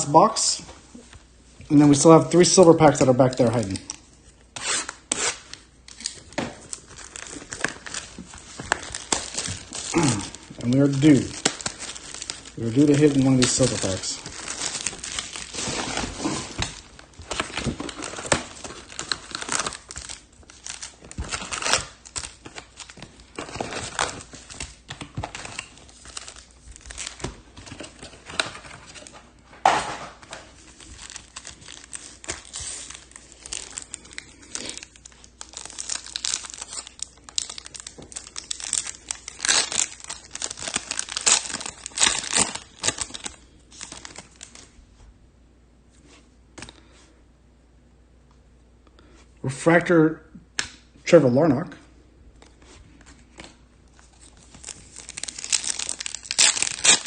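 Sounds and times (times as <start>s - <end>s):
plastic wrappers crinkling and tearing: 1.7s - 29.4s, 30.2s - 44.8s, 52.3s - 57.0s.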